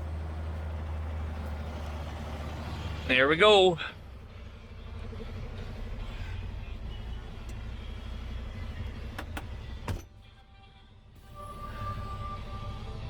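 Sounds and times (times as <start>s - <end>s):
truck engine running: 0.0s - 10.4s, 11.0s - 13.0s.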